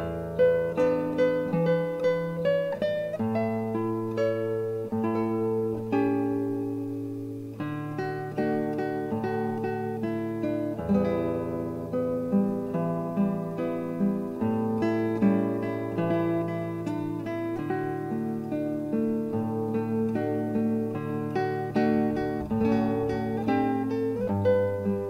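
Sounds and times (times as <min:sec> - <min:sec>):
guitar picking slow melody: 0:00.0 - 0:25.0.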